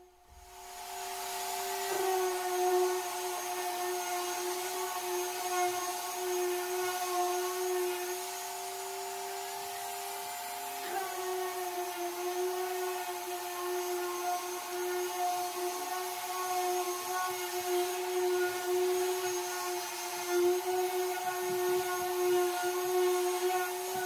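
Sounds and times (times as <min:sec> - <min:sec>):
orbital sander motor whine: 0:00.0 - 0:24.0
hiss of sanding: 0:00.4 - 0:24.0.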